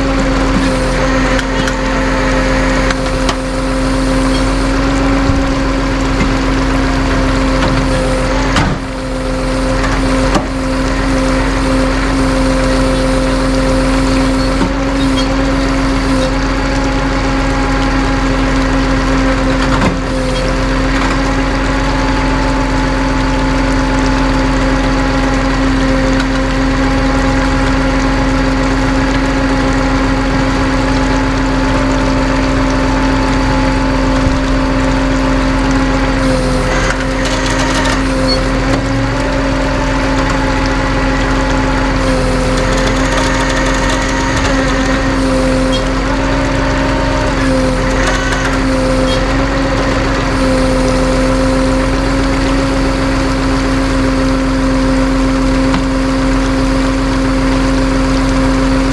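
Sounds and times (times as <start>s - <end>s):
engine humming steadily: 0.0s - 58.9s.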